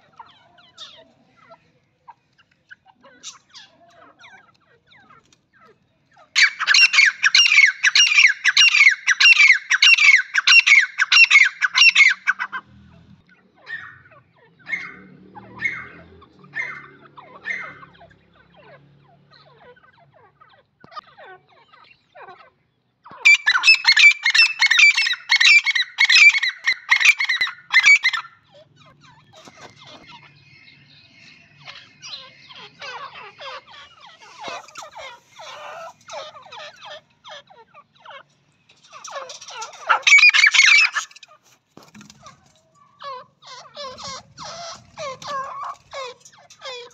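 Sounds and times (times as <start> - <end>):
faint bird chatter: 0.0 - 46.9
francolins calling harshly: 3.1 - 12.6, 13.6 - 41.6, 42.2 - 46.9.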